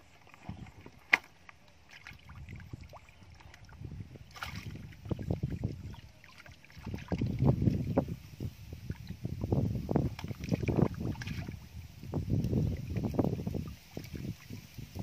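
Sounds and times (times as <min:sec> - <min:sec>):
splashing in muddy water: 0:00.0 - 0:15.0.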